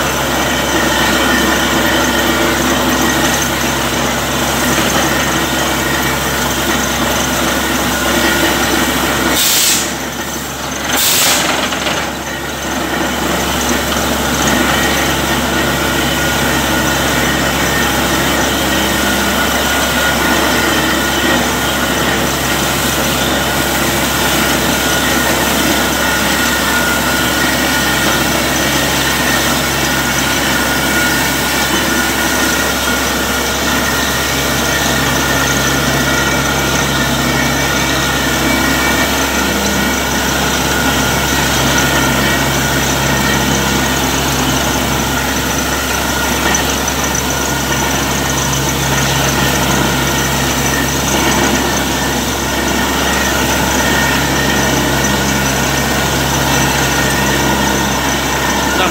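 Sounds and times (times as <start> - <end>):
drilling rig engine droning: 0.0 - 58.9
water gushing from bore: 0.0 - 58.9.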